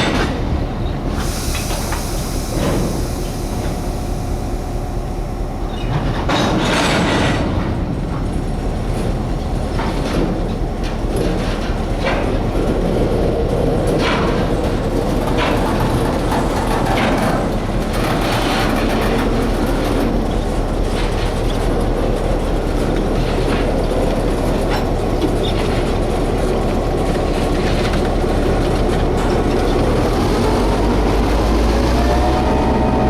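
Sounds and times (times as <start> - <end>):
locomotive engine drone: 0.0 - 33.0
wheels clicking on rail joints: 0.0 - 33.0.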